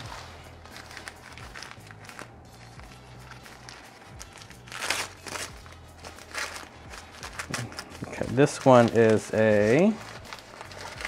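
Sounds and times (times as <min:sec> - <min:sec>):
paper rustling and crinkling: 0:00.0 - 0:11.0
soft background music: 0:00.0 - 0:11.0.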